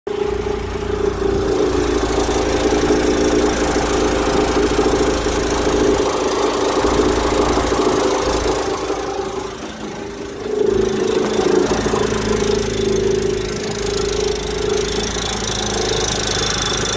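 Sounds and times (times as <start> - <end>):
car engine running: 0.1 - 16.9
rattling hum: 0.1 - 16.9.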